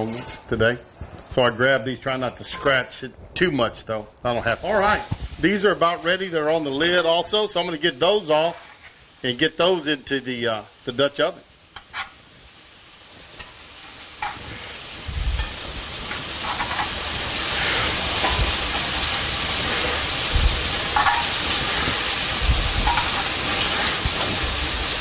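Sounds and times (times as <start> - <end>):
meat sizzling in hot grease: 0.0 - 25.0.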